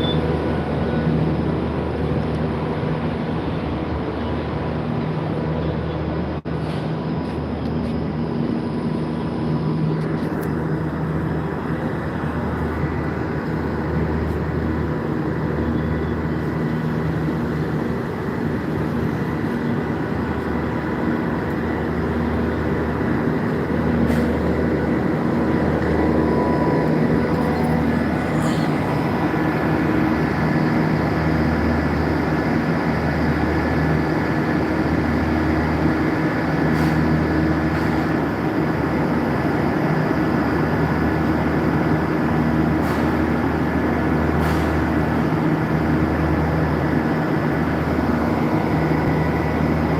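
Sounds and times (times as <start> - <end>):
machinery humming: 0.0 - 49.9.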